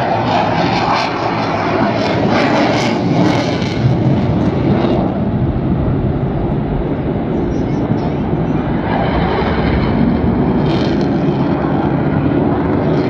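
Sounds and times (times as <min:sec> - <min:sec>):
jet engine roar overhead: 0:00.0 - 0:13.0.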